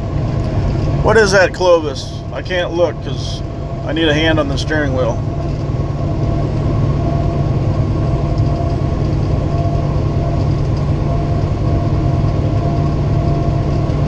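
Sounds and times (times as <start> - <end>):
car driving engine and tyre noise: 0.0 - 14.0.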